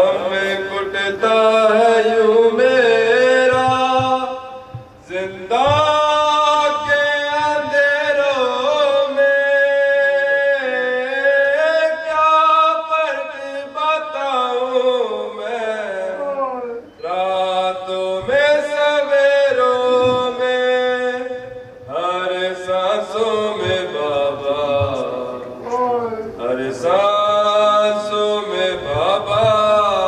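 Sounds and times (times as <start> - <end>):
man chanting into a microphone: 0.0 - 30.0.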